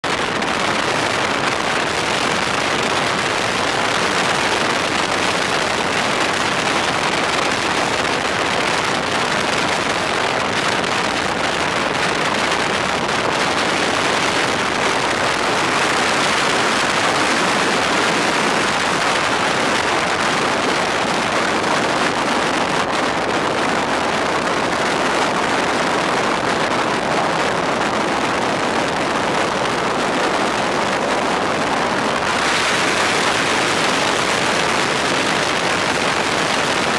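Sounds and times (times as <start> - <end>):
wind rushing past motorcycle: 0.0 - 36.9.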